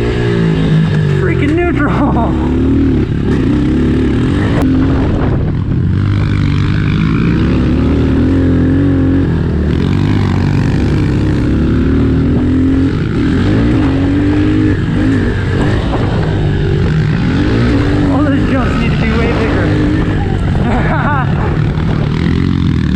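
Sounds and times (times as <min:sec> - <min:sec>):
motorbike engine revving: 0:00.0 - 0:22.9.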